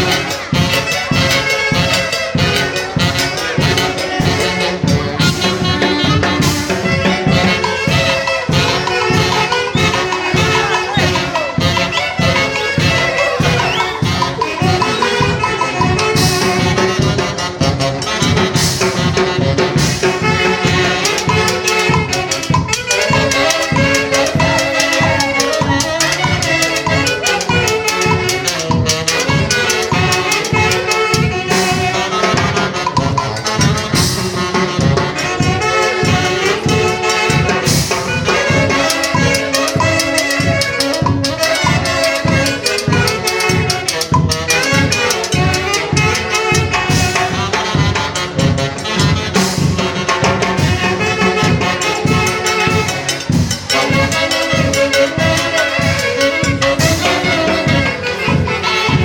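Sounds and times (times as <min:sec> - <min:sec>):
drums and cymbals beat: 0:00.0 - 0:59.0
trumpets playing melody: 0:00.0 - 0:59.0.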